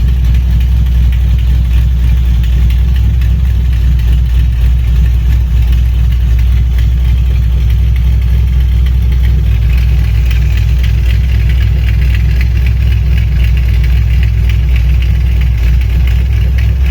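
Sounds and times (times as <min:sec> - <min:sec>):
car engine idling: 0:00.0 - 0:16.9
light rapid ticking: 0:00.0 - 0:16.9.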